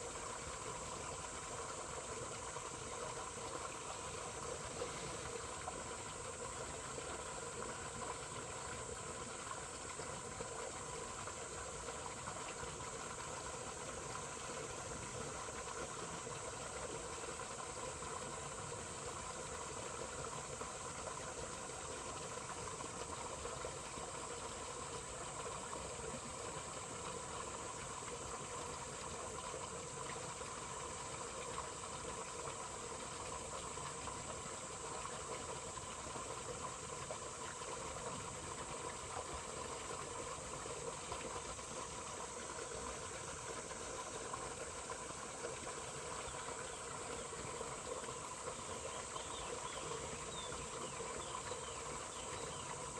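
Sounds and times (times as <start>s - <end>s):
water flowing in a stream: 0.0s - 52.9s.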